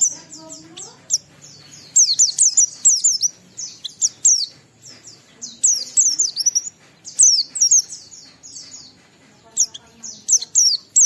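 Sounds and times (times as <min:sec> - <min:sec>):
bird high-pitched chatter: 0:00.0 - 0:11.0.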